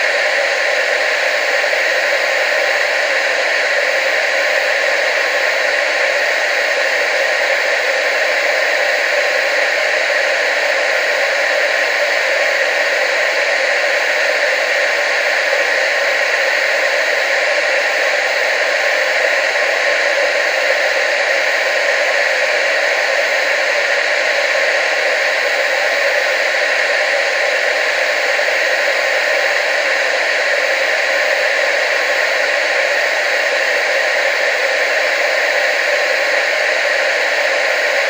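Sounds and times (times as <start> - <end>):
television static hiss: 0.0 - 38.0.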